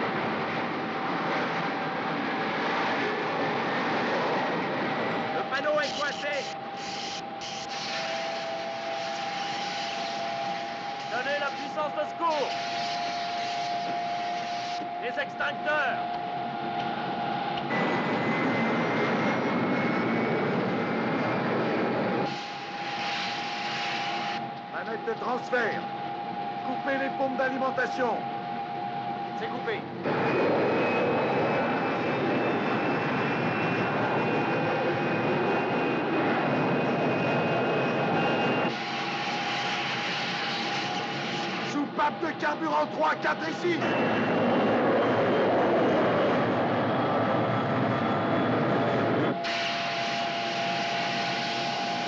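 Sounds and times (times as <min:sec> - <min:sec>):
jet engines roaring: 0:00.0 - 0:52.0
thin high whine: 0:04.9 - 0:52.0.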